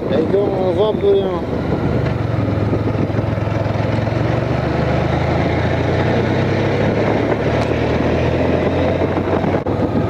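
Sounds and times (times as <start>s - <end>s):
motorcycle engine running: 0.0s - 10.0s
road noise: 0.0s - 10.0s
wind noise: 0.0s - 10.0s.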